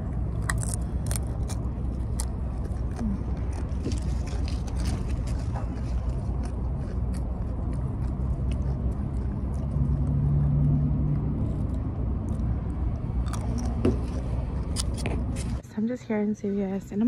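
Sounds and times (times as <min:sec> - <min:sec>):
car engine rumble from inside: 0:00.0 - 0:15.6.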